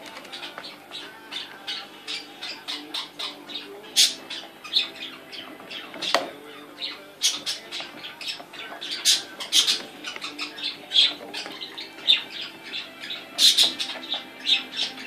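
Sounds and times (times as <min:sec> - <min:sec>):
parrot squawking: 0:00.0 - 0:15.0.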